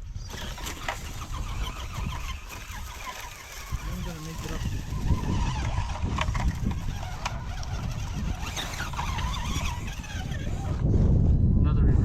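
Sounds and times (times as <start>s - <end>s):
electric motor whining: 0.0s - 11.1s
wind rumbling on microphone: 0.0s - 12.0s.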